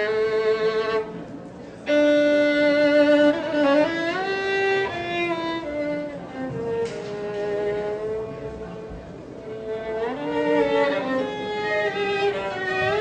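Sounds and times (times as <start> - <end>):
solo violin melody: 0.0 - 13.0.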